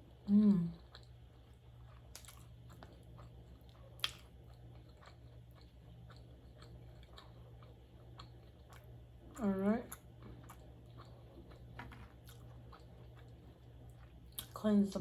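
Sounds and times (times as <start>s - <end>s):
steady low hum: 0.0s - 15.0s
person chewing food: 0.1s - 14.6s.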